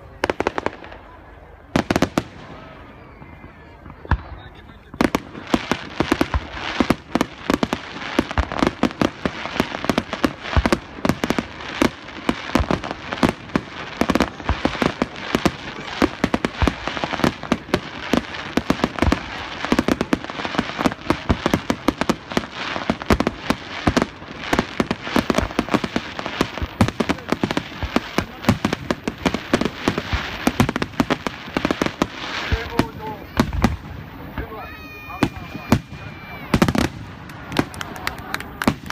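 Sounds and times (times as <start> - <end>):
fireworks bursts and crackling: 0.0 - 38.9.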